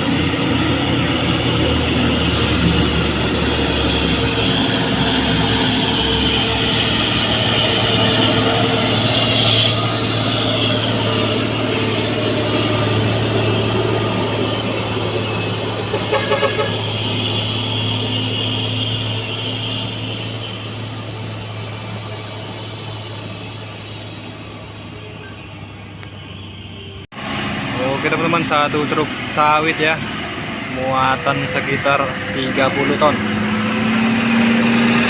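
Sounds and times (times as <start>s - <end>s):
diesel truck engine under load: 0.0s - 35.0s.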